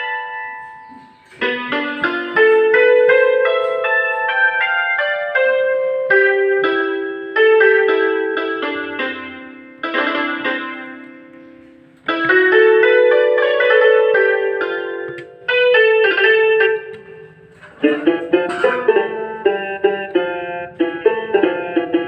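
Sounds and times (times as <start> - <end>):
electronic keyboard piano melody: 0.0 - 22.0.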